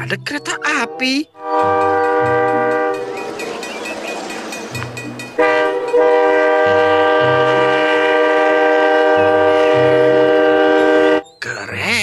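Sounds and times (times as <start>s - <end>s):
train horn blasts: 1.4s - 11.2s.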